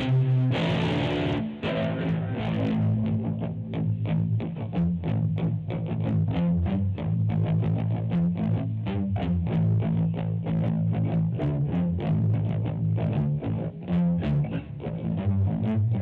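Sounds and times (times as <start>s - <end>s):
electric guitar picked notes: 0.0s - 16.0s.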